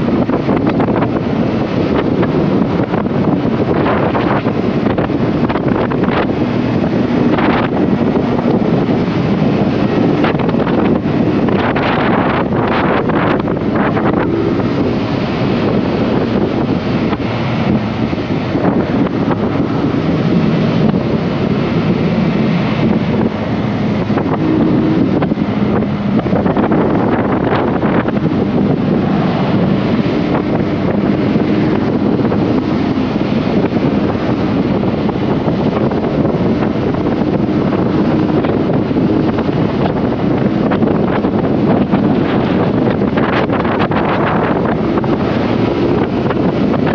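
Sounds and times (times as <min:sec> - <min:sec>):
motorcycle engine hum: 0:00.0 - 0:46.9
wind rush on microphone: 0:00.0 - 0:46.9.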